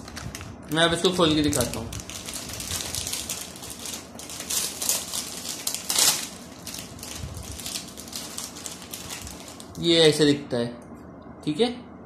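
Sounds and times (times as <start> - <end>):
plastic wrapper crinkling: 0.0 - 10.0.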